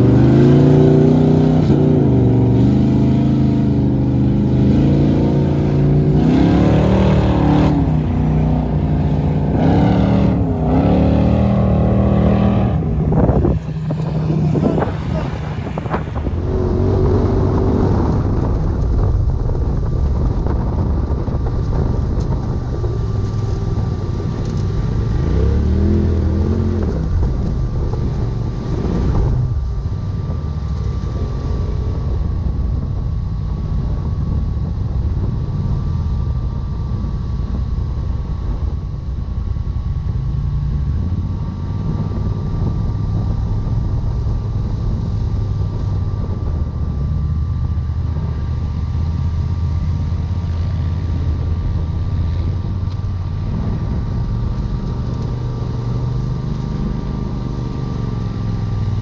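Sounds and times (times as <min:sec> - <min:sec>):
vehicle engine revving: 0:00.0 - 0:32.8, 0:33.8 - 0:59.0
steady high whine: 0:00.0 - 0:59.0
wind on microphone: 0:00.0 - 0:59.0.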